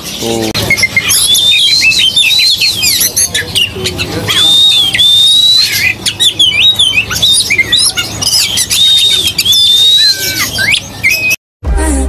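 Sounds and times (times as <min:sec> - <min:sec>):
bird chirps: 0:00.0 - 0:11.4
songbirds whistling: 0:00.0 - 0:11.4.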